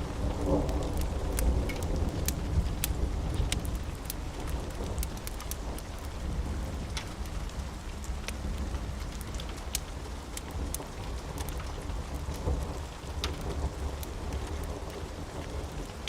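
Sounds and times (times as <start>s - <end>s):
low rumble of thunder: 0.0s - 16.0s
steady rain: 0.0s - 16.0s.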